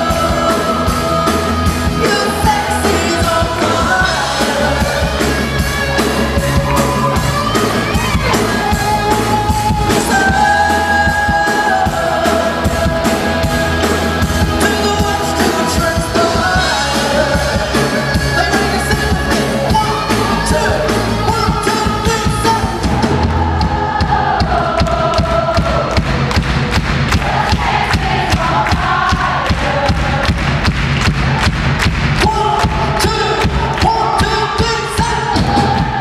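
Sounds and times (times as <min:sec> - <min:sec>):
man singing lead: 0:00.0 - 0:26.1, 0:32.2 - 0:36.0
live pop band playing: 0:00.0 - 0:36.0
steady drum beat: 0:00.0 - 0:36.0.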